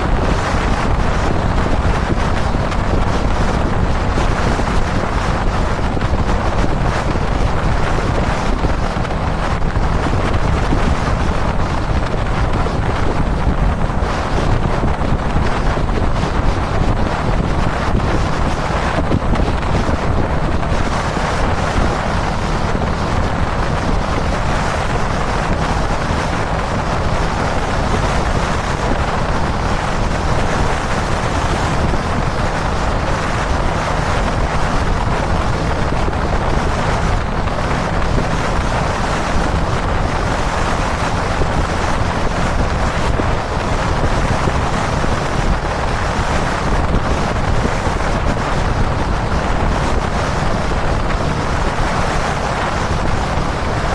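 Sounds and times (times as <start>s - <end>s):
motorcycle engine cruising: 0.0s - 53.9s
wind rushing over microphone: 0.0s - 53.9s.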